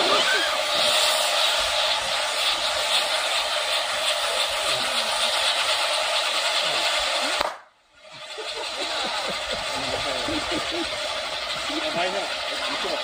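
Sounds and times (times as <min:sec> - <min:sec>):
fountain firework hissing: 0:00.0 - 0:13.0.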